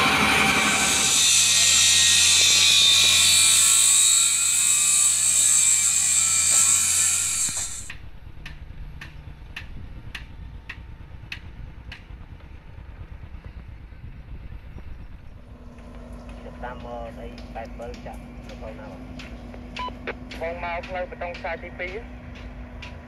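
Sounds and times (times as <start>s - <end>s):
construction site noise: 0.0s - 23.0s
low hum: 0.0s - 23.0s.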